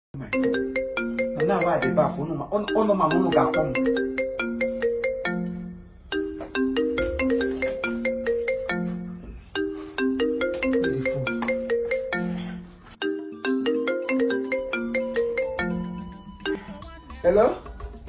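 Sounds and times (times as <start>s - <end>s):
marimba ringtone: 0.2s - 18.0s.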